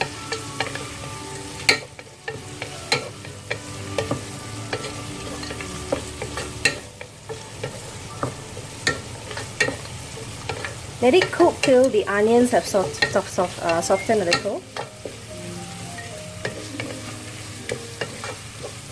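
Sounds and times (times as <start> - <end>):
food sizzling in hot oil: 0.0 - 18.9.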